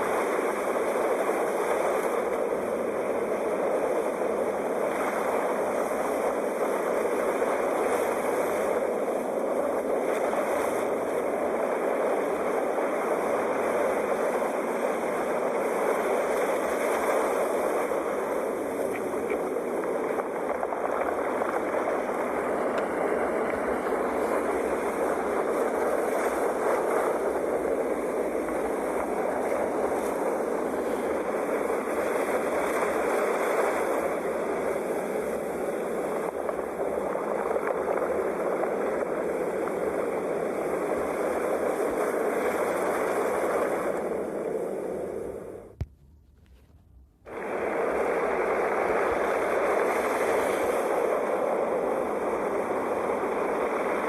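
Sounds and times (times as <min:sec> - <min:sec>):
sea waves washing on shore: 0:00.0 - 0:45.9, 0:47.3 - 0:54.0.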